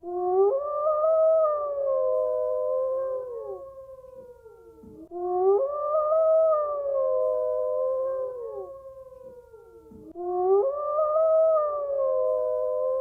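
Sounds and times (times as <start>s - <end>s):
wolves howling: 0.0s - 13.0s.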